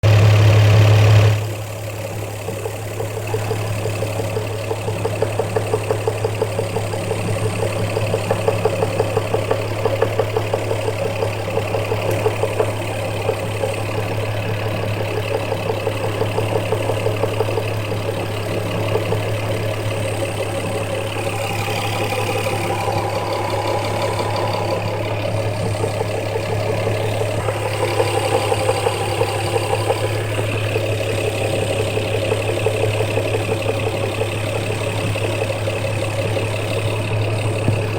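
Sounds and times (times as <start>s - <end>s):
car engine idling: 0.0s - 37.9s
fast regular engine knock: 0.0s - 37.9s.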